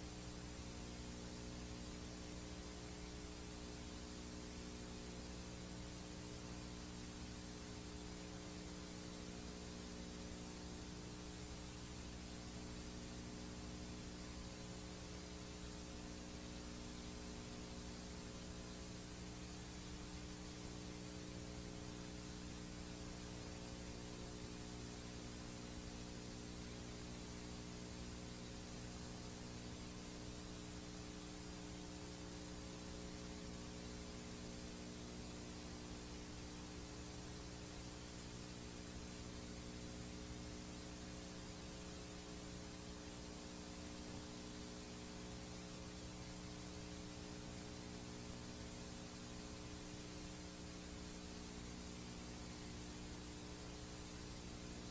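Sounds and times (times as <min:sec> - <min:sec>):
tape playback hiss: 0:00.0 - 0:54.9.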